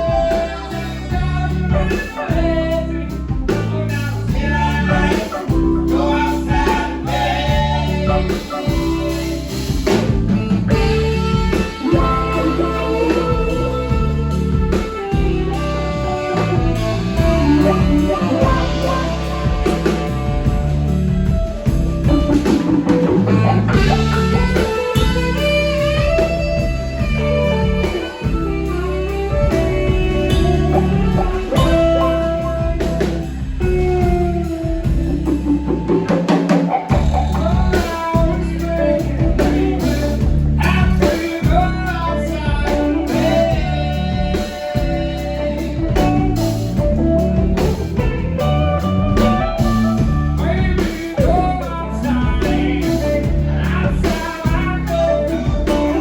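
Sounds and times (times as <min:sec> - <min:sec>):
guitar bending sliding notes: 0:00.0 - 0:56.0
live blues band: 0:00.0 - 0:56.0.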